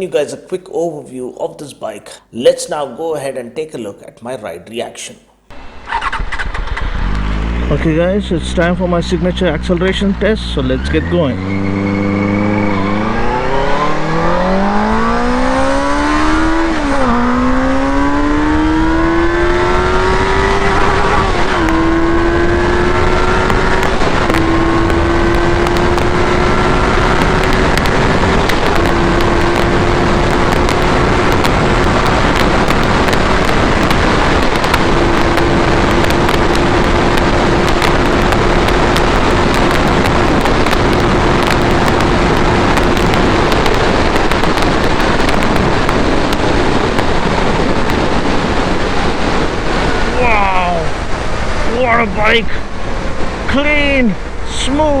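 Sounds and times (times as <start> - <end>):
motorcycle engine accelerating: 5.5 - 53.5
wind rushing: 10.8 - 55.0.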